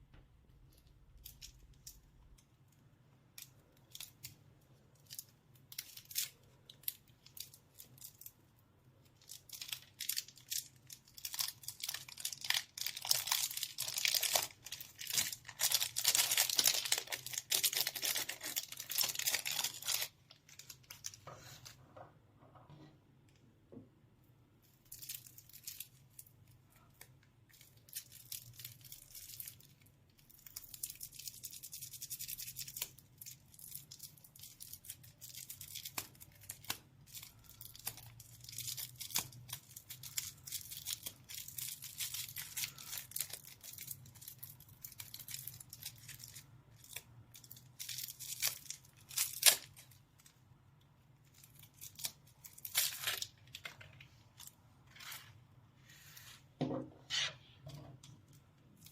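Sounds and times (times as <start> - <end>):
plastic wrapper crinkling and tearing: 0.6 - 21.8, 24.6 - 55.4, 58.0 - 58.9.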